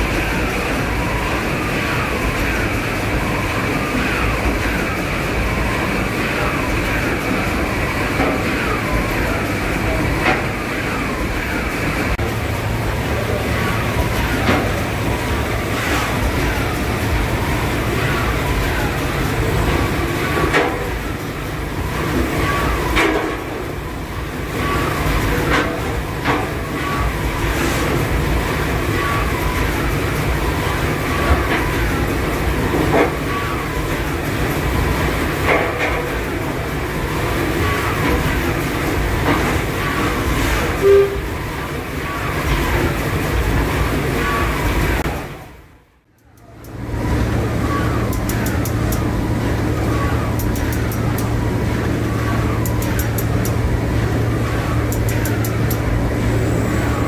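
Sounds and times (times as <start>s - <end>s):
steam engine rumble: 0.0s - 57.0s.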